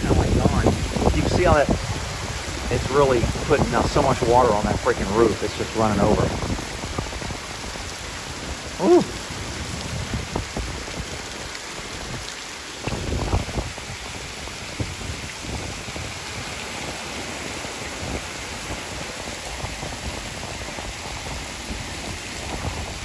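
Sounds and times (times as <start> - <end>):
heavy rain on grass: 0.0 - 23.0.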